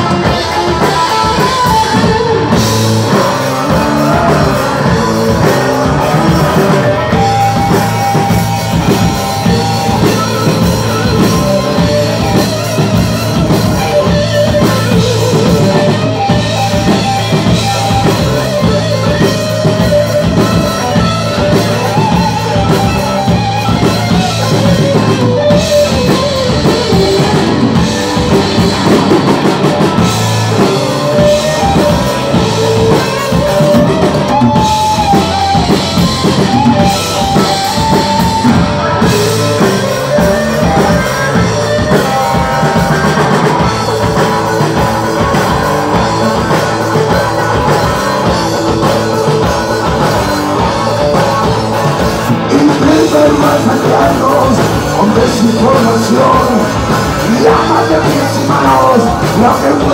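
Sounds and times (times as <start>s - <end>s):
driving drum kit: 0.0s - 59.9s
electric guitar: 0.0s - 59.9s.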